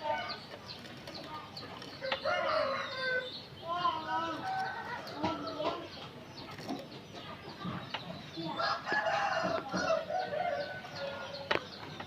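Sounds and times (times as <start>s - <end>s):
bird chattering and singing: 0.0s - 12.0s.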